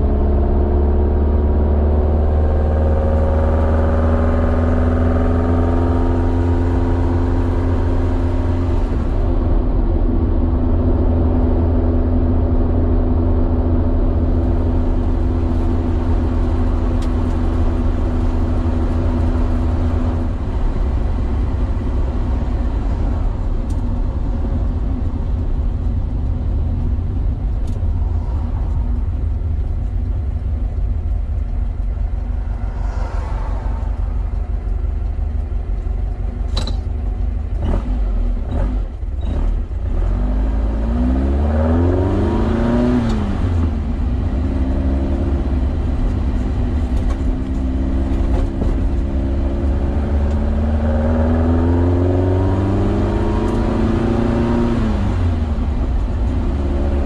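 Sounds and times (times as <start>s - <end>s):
car engine: 0.0s - 57.0s
road rumble: 0.0s - 57.0s.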